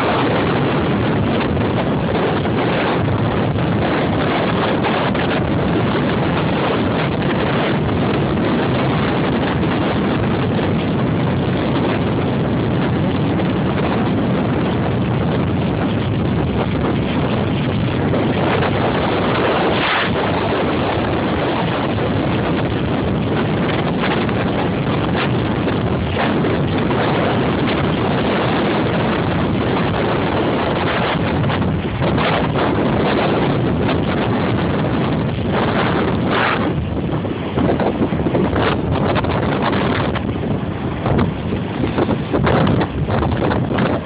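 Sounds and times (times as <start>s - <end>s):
sea waves breaking: 0.0s - 44.0s
wind buffeting microphone: 0.0s - 44.0s.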